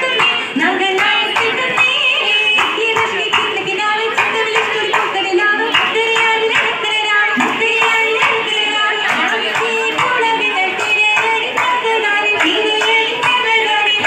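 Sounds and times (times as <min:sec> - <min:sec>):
group singing together: 0:00.0 - 0:14.0
rhythmic hand claps: 0:00.0 - 0:14.0.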